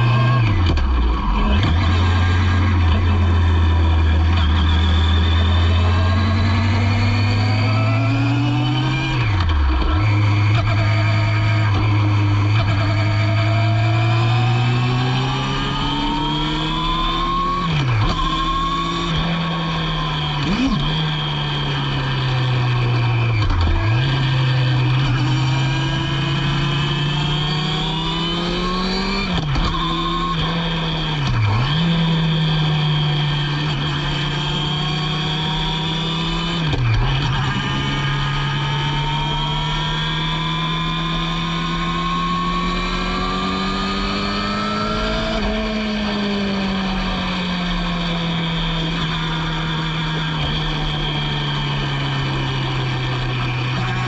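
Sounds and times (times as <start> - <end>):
racing engine at speed: 0.0 - 54.0.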